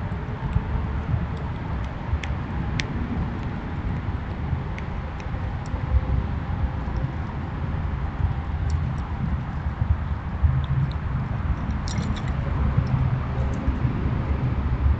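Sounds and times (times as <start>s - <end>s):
low outdoor rumble: 0.0s - 14.9s.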